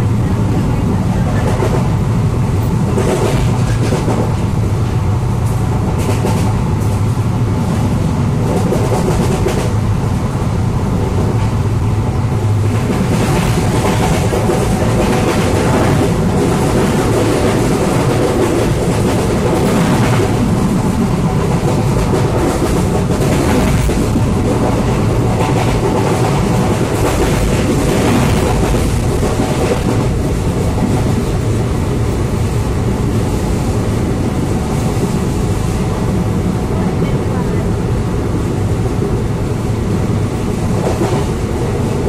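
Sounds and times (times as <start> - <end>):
train rumble and wind rush: 0.0 - 42.0.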